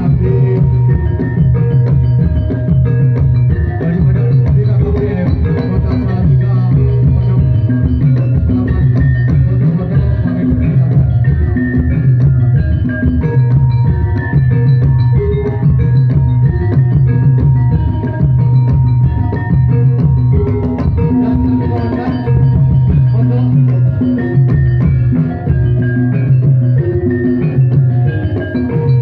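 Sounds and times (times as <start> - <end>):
gamelan music over loudspeakers: 0.0 - 29.0.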